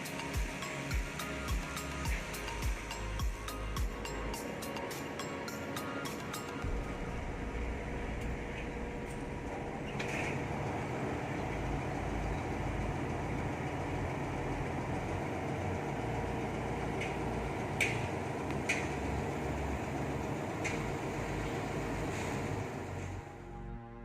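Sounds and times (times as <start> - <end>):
diesel excavator engine running: 0.0 - 23.6.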